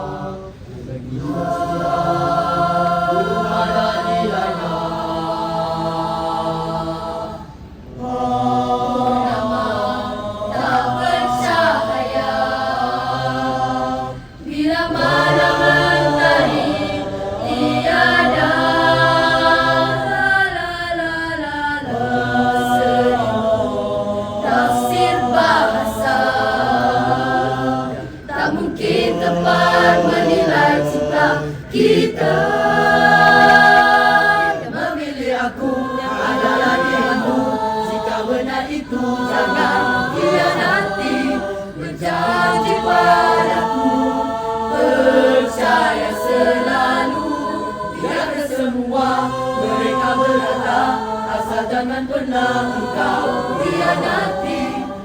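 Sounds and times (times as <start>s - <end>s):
choir singing held chords: 0.0s - 55.0s.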